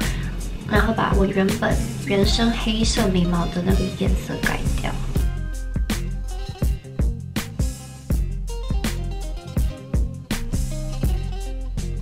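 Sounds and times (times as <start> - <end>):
funk music with drums bass guitar: 0.0 - 12.0.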